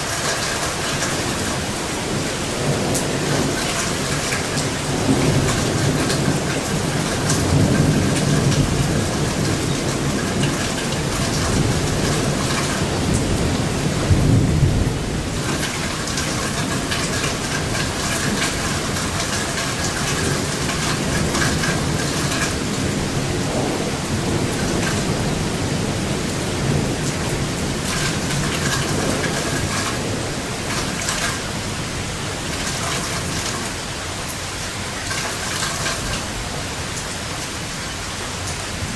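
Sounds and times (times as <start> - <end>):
thunder rumbling: 0.0 - 33.7
heavy rain: 0.0 - 38.9.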